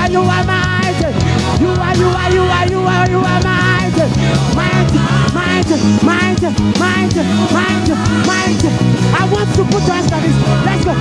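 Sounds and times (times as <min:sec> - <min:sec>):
gospel band music: 0:00.0 - 0:11.0
people singing: 0:00.0 - 0:11.0.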